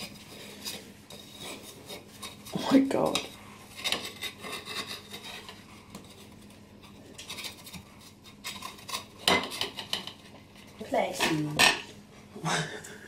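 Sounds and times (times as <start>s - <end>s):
plastic spatula scraping baking tin: 0.0s - 11.4s.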